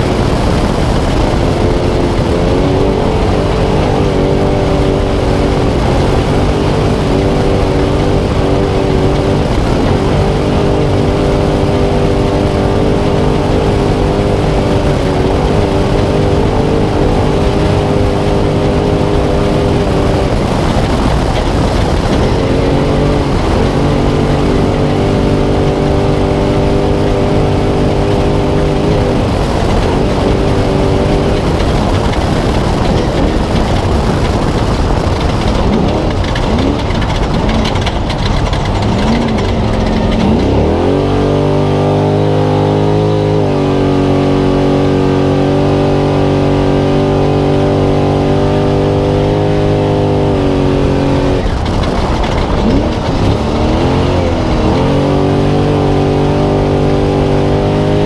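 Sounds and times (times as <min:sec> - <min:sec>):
truck engine at high revs: 0:00.0 - 0:58.0
wind and tyre noise: 0:00.0 - 0:58.0.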